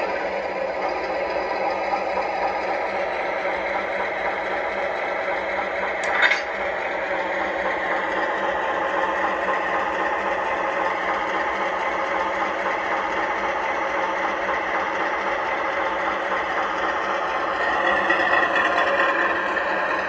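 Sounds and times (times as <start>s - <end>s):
model train engine sound: 0.0s - 20.0s
model train motor and wheels: 0.0s - 20.0s.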